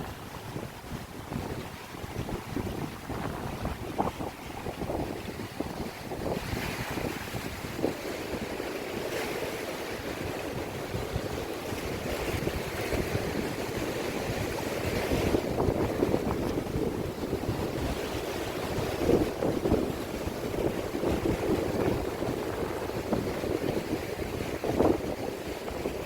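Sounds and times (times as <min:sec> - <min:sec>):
waves washing on rocky shore: 0:00.0 - 0:26.0
wind buffeting microphone: 0:00.0 - 0:26.0.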